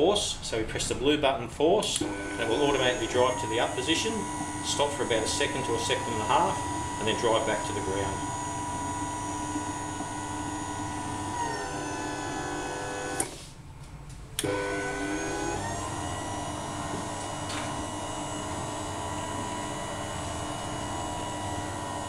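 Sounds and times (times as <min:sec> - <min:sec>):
electric drive motor whining: 0:01.9 - 0:13.5, 0:14.4 - 0:22.0.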